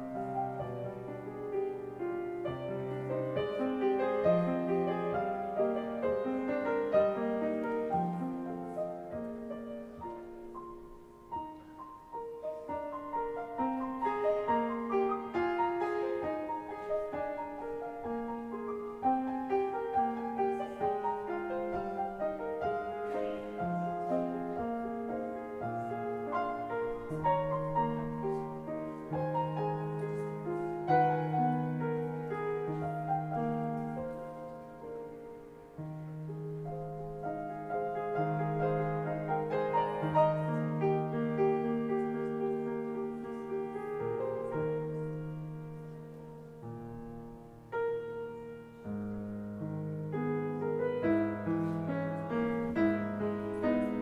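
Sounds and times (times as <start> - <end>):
solo piano piece: 0.0 - 54.0.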